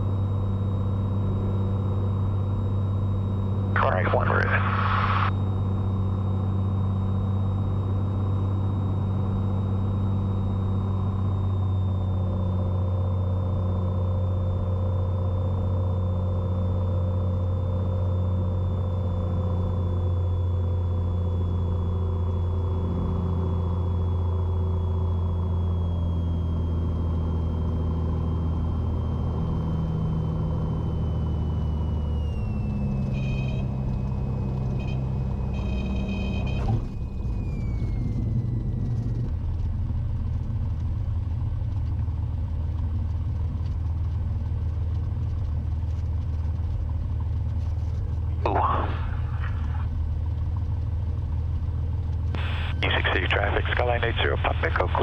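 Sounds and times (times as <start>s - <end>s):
aircraft engine drone in cabin: 0.0s - 55.0s.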